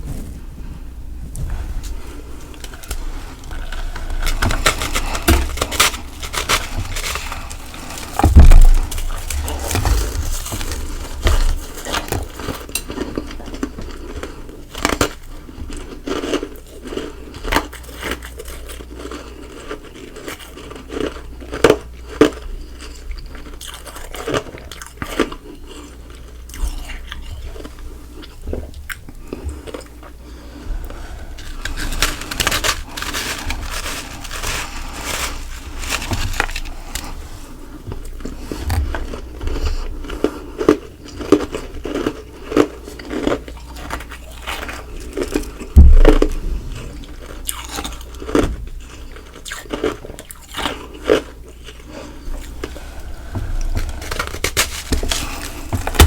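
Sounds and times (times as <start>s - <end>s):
ice being chewed: 1.9s - 56.0s.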